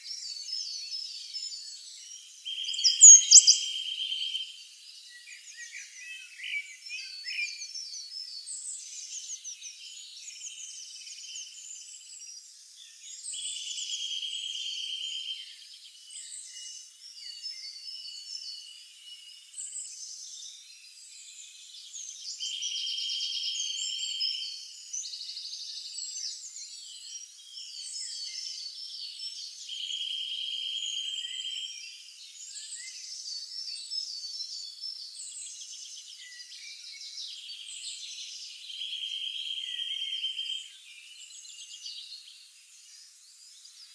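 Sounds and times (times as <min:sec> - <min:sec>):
songbirds chirping and singing: 0:00.0 - 0:43.9.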